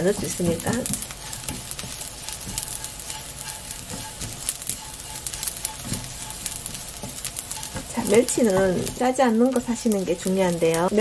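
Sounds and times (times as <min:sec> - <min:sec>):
fish frying in oil: 0:00.0 - 0:11.0
spatula stirring in wok: 0:00.0 - 0:11.0.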